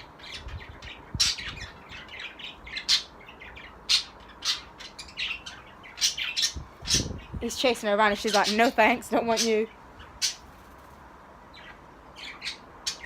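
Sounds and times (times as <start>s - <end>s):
budgerigars chirping and squawking: 0.0s - 10.8s, 11.5s - 13.0s.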